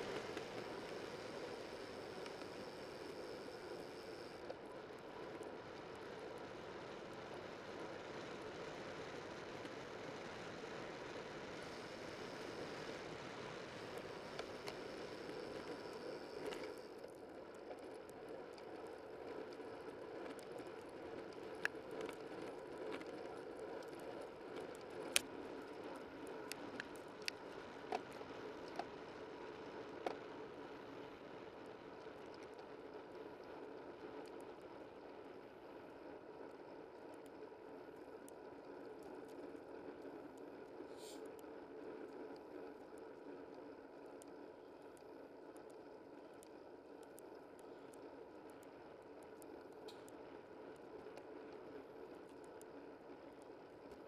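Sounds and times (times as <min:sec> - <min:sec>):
bicycle tyre and drivetrain noise: 0:00.0 - 0:54.0.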